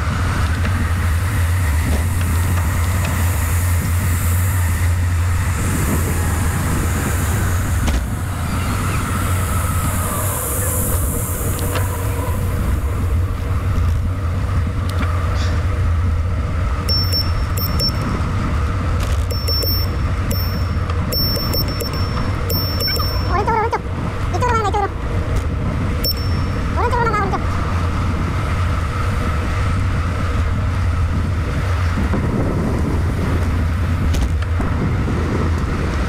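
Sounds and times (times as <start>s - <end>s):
low rumble: 0.0s - 36.0s
wind rushing over microphone: 0.0s - 36.0s.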